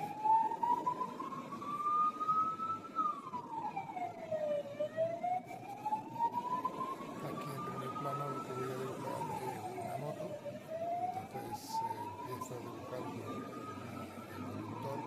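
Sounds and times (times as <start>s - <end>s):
siren wailing: 0.0s - 15.0s
street traffic hum: 0.0s - 15.0s.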